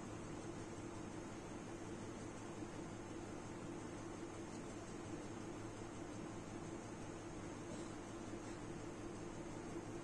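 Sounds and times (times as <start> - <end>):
computer fan hum and hiss: 0.0 - 10.0.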